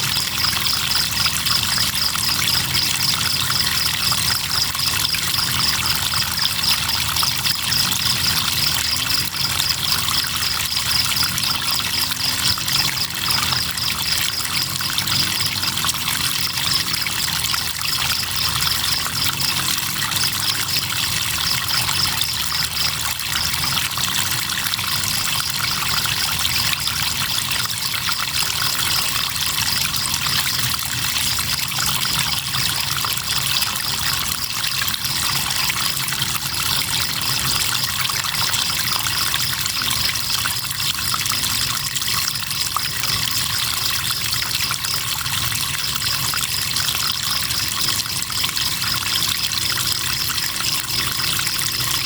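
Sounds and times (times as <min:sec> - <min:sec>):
crickets trilling: 0:00.0 - 0:52.0
flowing river water: 0:00.0 - 0:52.0.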